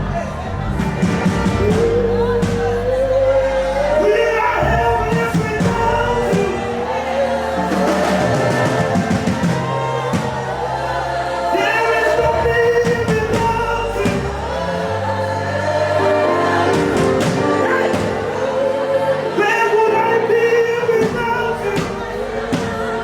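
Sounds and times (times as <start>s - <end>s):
instrumental backing with low bass: 0.0s - 23.0s
voices singing gospel: 0.0s - 23.0s.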